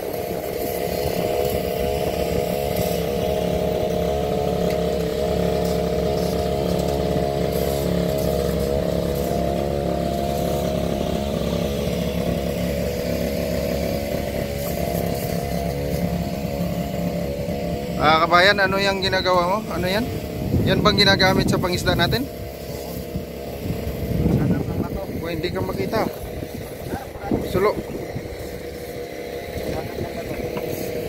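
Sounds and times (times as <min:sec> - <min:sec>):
small engine humming: 0:00.0 - 0:31.0.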